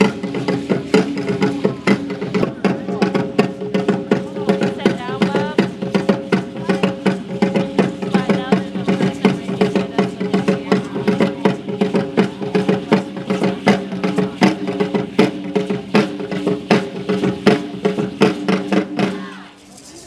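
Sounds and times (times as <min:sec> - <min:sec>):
sharp percussion beats: 0:00.0 - 0:20.0.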